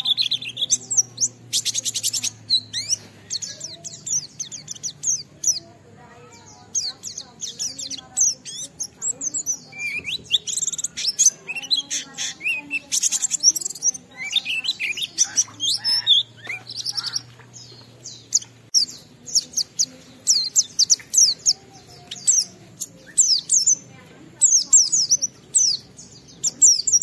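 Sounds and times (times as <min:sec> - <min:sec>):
bird warbling song: 0:00.0 - 0:27.0.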